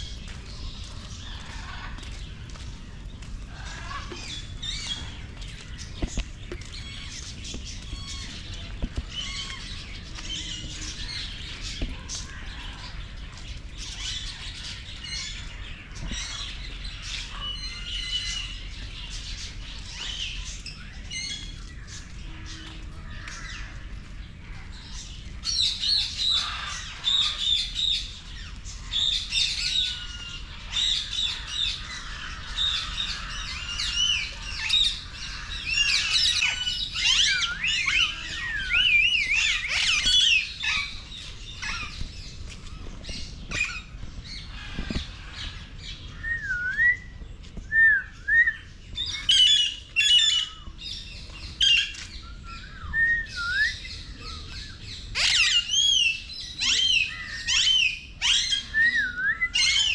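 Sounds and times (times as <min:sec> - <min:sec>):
birds chirping and whistling: 0:00.0 - 0:59.9.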